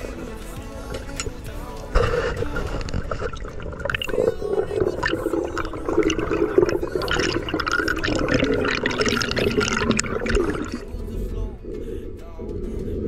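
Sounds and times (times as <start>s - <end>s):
water rushing and bubbling: 2.0s - 13.0s.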